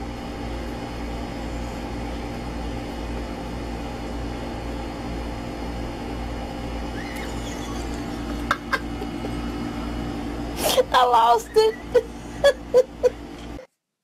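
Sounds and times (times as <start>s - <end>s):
steady low machine hum: 0.0s - 13.7s.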